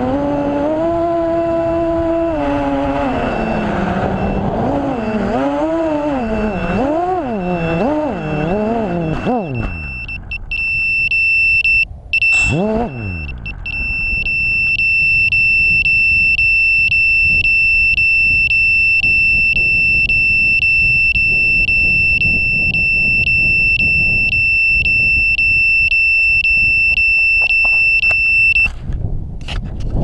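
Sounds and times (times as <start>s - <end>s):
low wind rumble: 0.0s - 30.0s
shrill pulsing buzzer beep: 3.0s - 28.7s.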